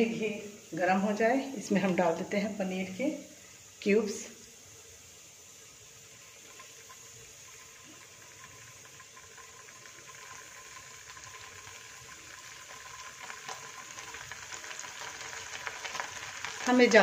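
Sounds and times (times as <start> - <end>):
cheese cubes sizzling in a frying pan: 0.0 - 17.0.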